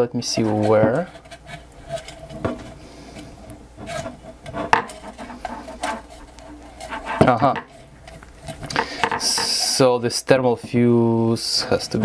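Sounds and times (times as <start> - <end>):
rubbing and scraping inside metal body: 0.0 - 9.9, 11.5 - 12.0.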